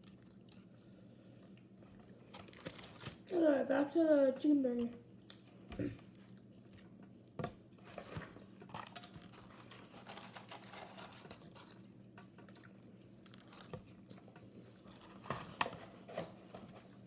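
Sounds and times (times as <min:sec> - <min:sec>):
wet chewing sounds: 0:00.0 - 0:03.3, 0:05.1 - 0:17.0.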